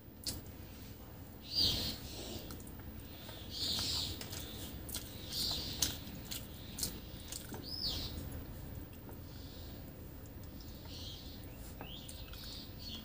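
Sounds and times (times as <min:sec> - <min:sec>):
wet chewing: 0:02.4 - 0:13.0.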